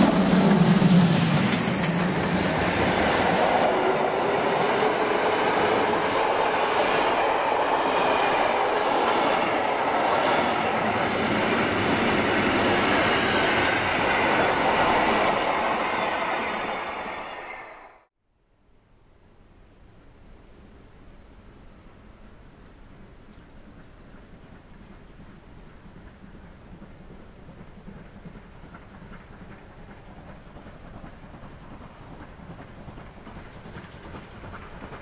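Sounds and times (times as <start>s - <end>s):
train wheels rumbling on rail: 0.0s - 17.8s, 22.3s - 35.0s.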